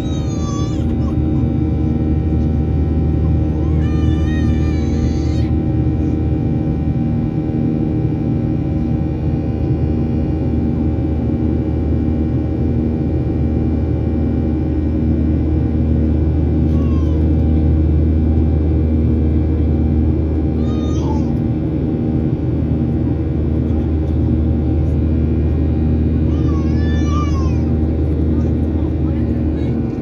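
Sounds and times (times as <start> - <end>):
airplane cabin drone: 0.0 - 30.0.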